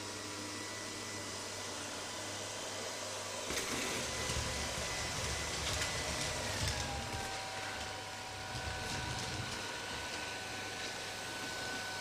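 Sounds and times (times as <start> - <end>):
robot vacuum motor whine: 0.0 - 12.0.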